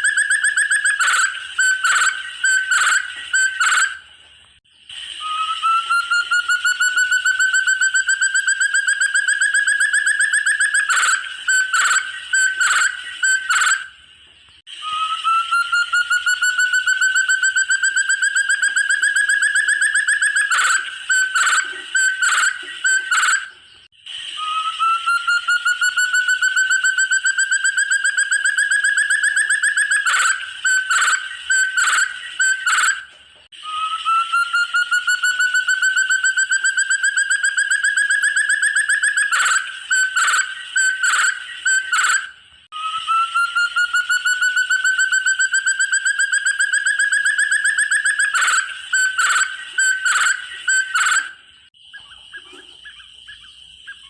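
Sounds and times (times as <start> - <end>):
quail call with rising trill: 0.0 - 4.0, 5.0 - 14.0, 14.7 - 54.0.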